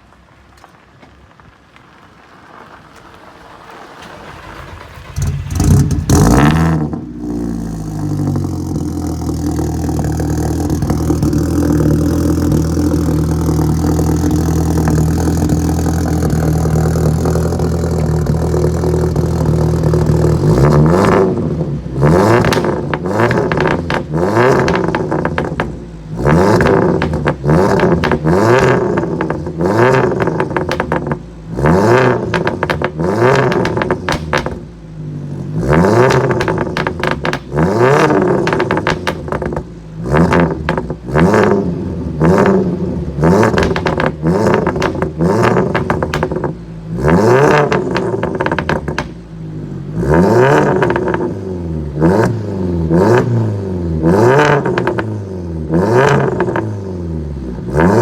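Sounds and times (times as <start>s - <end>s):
exhaust pops and crackles: 0.0s - 56.8s
car engine starting and revving: 3.2s - 58.0s.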